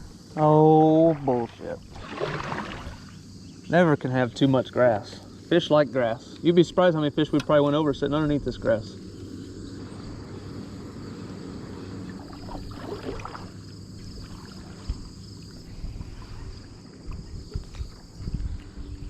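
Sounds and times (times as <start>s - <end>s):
water and wind rumble: 0.0s - 19.0s.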